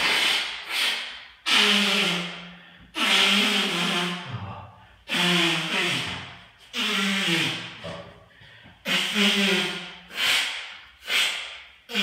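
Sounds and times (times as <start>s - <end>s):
man blowing his nose: 0.0s - 8.0s, 8.8s - 12.0s.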